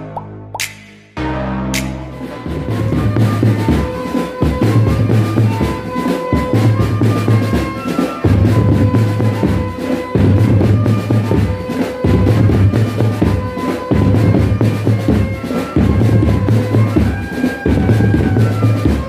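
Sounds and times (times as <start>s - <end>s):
drum band music with deep bass: 0.0s - 19.0s.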